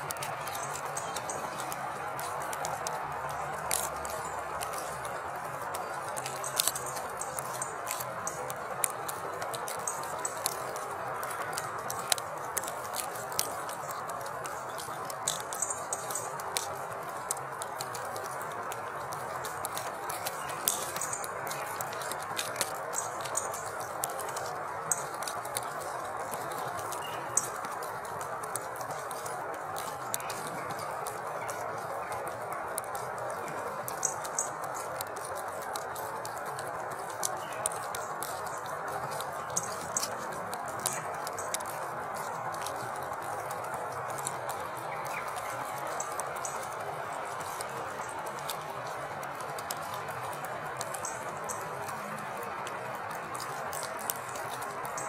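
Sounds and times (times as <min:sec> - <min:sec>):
drops ticking: 0:00.0 - 0:55.0
hiss of falling rain: 0:00.0 - 0:55.0.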